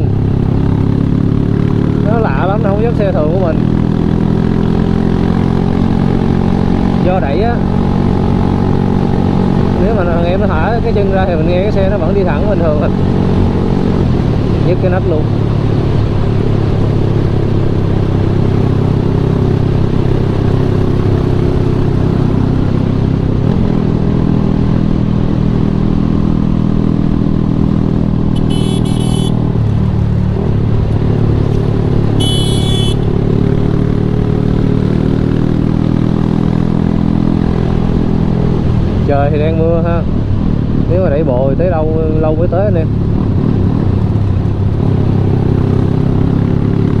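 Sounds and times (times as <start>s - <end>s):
motorcycle engine running: 0.0s - 39.8s
road and wind noise: 0.0s - 47.0s.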